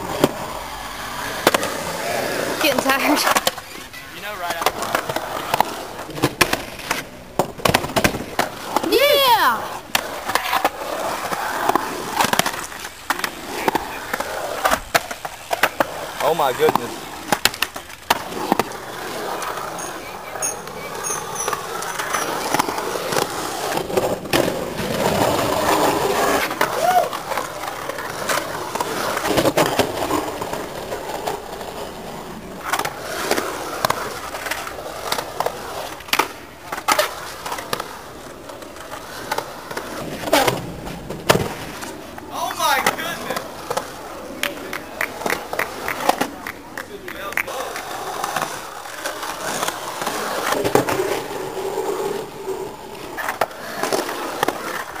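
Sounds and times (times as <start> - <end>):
skateboard clacking on coping: 0.0 - 55.0
skateboard wheels rolling on concrete: 0.0 - 55.0.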